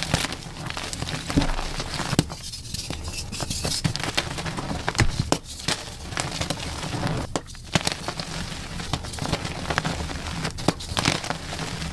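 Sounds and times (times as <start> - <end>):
chalk crunching and crackling: 0.0 - 11.9.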